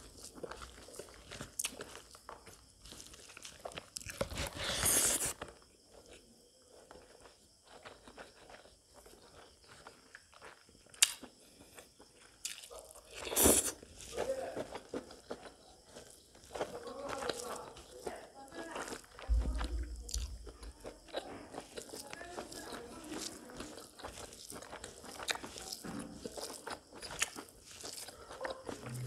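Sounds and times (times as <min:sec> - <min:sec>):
chewing and crunching food: 0:00.0 - 0:29.0.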